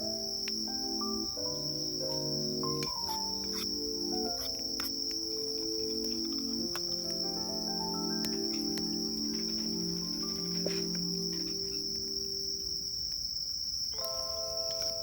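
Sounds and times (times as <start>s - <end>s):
crickets trilling: 0.0s - 15.0s
soft music of held notes: 0.0s - 15.0s.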